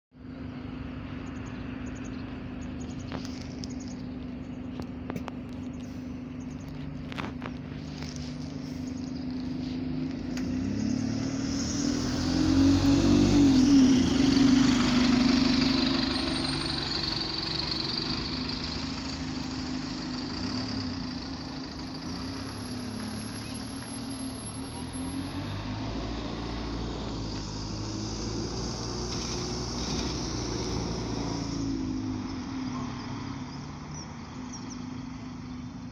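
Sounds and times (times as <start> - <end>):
diesel bus pulling away: 0.2 - 35.9.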